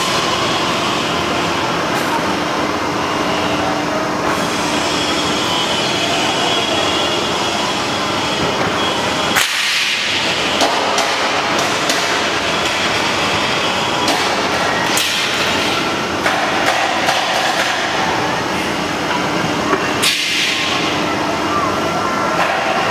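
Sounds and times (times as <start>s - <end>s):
conveyor running: 0.0s - 22.9s.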